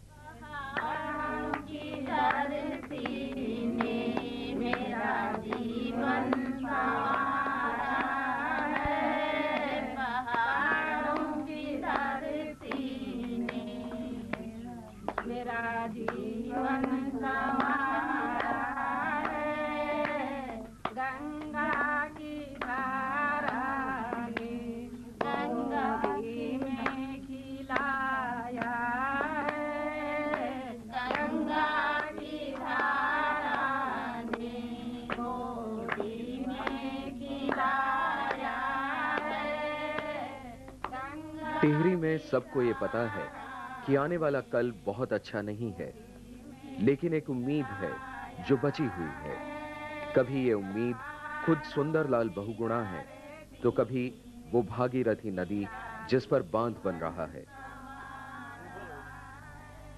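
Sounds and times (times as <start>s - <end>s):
women singing: 0.0s - 44.9s, 45.7s - 59.9s.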